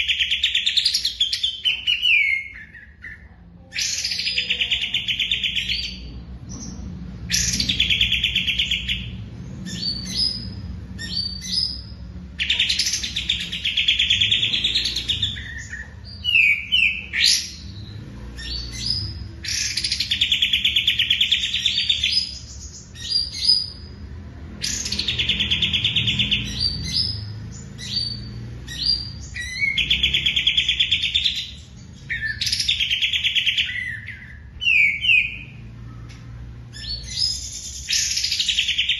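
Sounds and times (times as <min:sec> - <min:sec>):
bird chirps: 0:00.0 - 0:24.0, 0:24.6 - 0:38.9.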